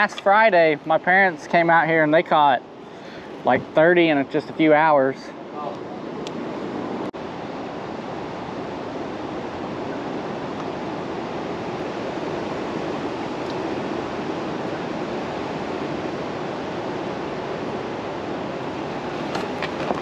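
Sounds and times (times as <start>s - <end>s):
choppy lake water: 0.0s - 20.0s.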